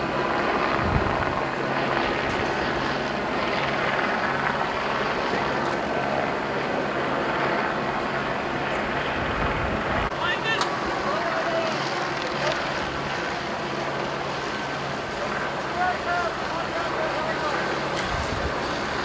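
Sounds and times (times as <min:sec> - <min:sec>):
helicopter flying overhead: 0:00.0 - 0:19.0.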